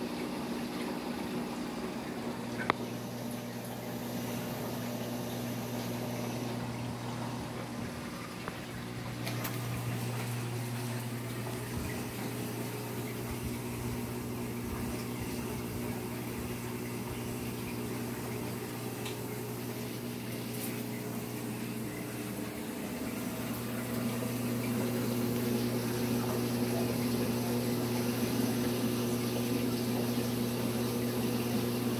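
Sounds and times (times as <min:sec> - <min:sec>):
pump hum: 0:00.0 - 0:31.9
water rushing and trickling: 0:02.9 - 0:31.9.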